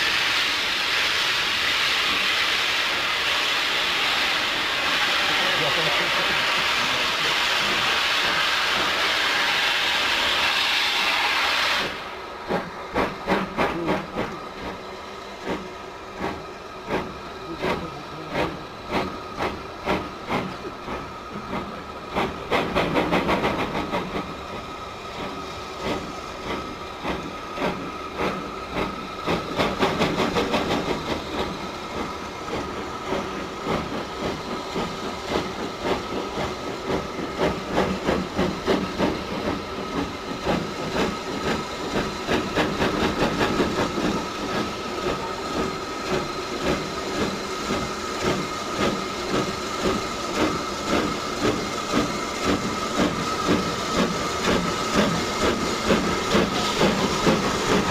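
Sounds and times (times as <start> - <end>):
loud steam hiss: 0.0 - 57.9
steam locomotive exhaust chuffing: 0.0 - 57.9.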